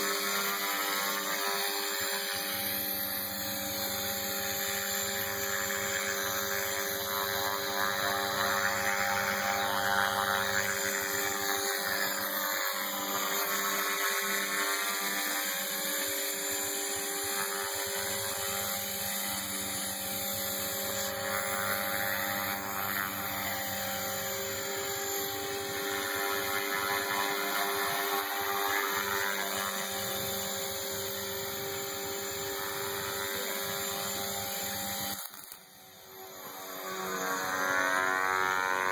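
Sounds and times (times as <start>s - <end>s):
rc helicopter whine: 0.0s - 38.9s.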